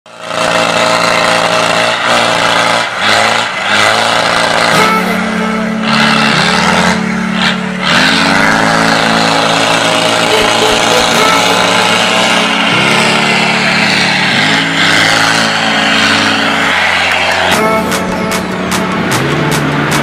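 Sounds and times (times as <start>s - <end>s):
engine revving: 0.1s - 20.0s.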